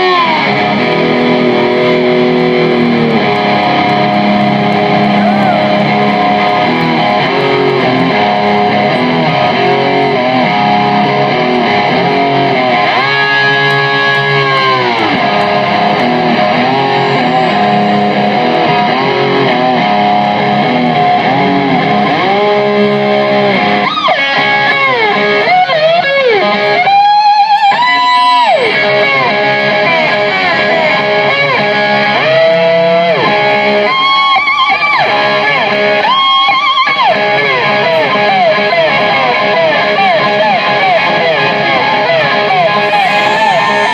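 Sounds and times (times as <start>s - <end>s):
bass guitar: 0.0s - 43.9s
electric guitar bending notes: 0.0s - 43.9s
live rock band playing: 0.0s - 43.9s.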